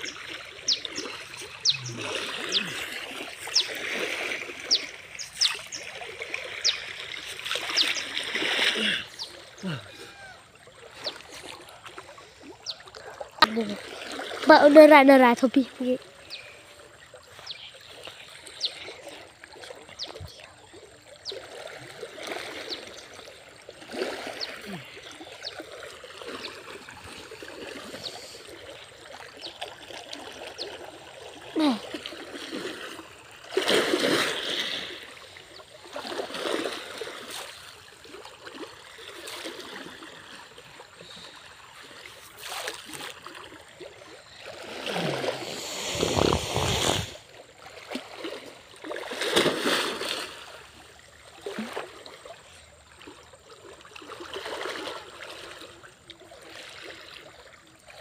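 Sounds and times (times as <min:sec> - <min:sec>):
water splashing from swimming: 0:00.0 - 0:58.0.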